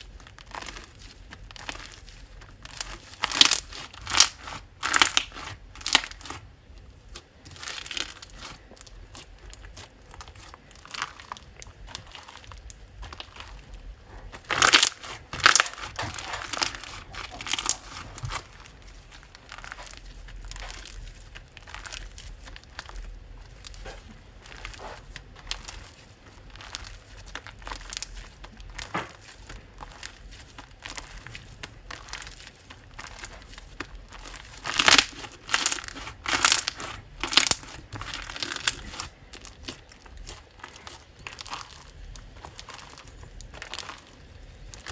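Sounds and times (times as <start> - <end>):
hands squishing slime: 0.0 - 44.9.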